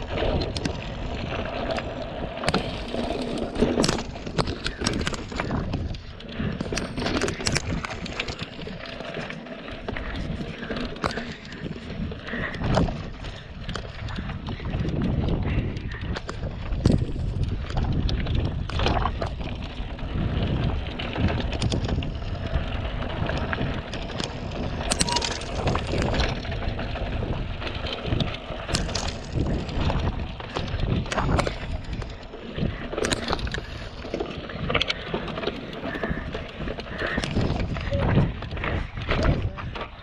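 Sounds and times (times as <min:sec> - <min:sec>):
bike rattling: 0:00.0 - 0:40.0
bike tyres crunching on grit: 0:00.0 - 0:40.0
wind on microphone: 0:00.0 - 0:40.0.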